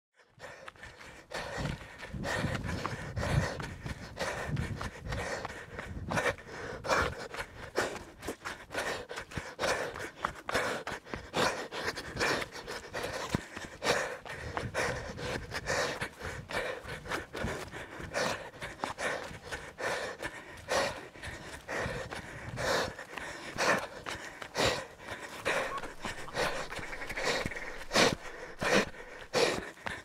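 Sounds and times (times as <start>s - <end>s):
heavy panting breaths: 0.2s - 30.0s
running footfalls: 0.4s - 30.0s.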